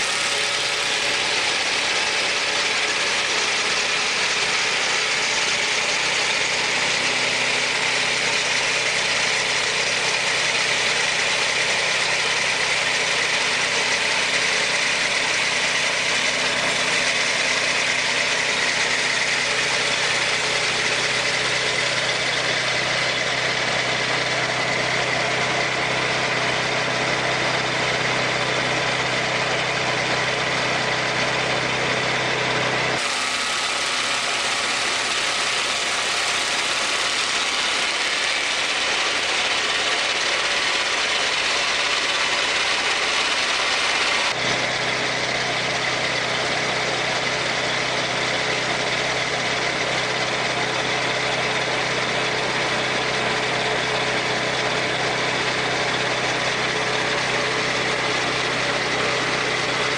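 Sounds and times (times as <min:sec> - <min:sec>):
sawmill engine and circular saw: 0:00.0 - 0:59.9.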